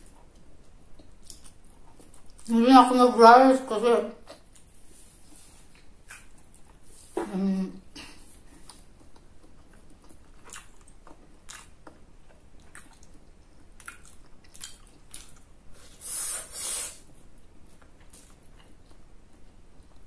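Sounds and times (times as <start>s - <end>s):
person chewing food: 0.0s - 2.5s, 4.2s - 7.2s, 8.0s - 20.0s.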